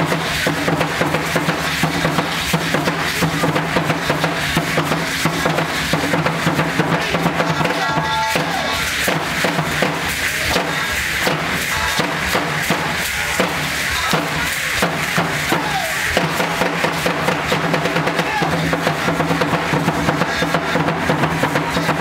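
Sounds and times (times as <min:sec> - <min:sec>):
steady drum beat: 0:00.0 - 0:22.0.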